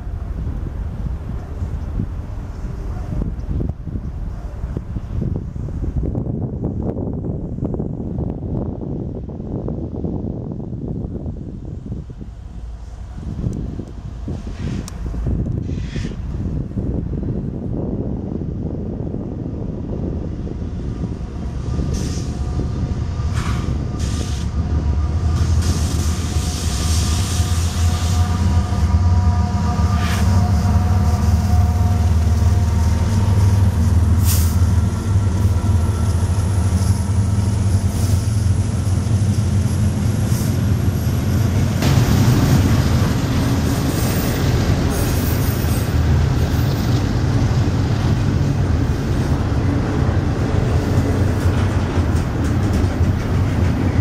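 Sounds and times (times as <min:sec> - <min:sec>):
diesel locomotive engine drone: 0:00.0 - 0:54.0
train rumbling: 0:00.0 - 0:54.0.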